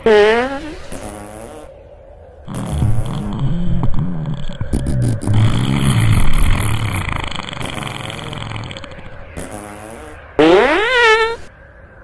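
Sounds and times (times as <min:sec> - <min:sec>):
long low fart: 0:00.0 - 0:01.7, 0:02.5 - 0:11.5.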